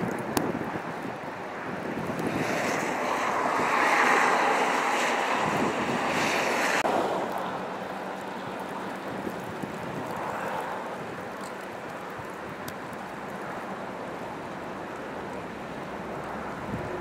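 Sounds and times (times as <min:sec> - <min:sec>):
wind buffeting microphone: 0:00.0 - 0:17.0
wind rushing through branches: 0:00.0 - 0:17.0.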